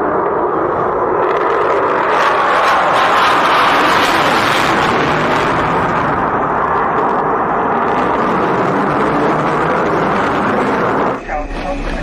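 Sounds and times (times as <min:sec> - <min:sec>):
fighter jet engines roaring: 0:00.0 - 0:12.0.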